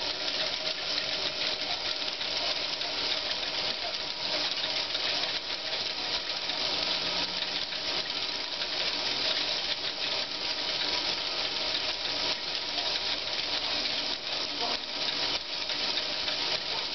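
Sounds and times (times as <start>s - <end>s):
clatter of metal gears: 0.0s - 16.9s.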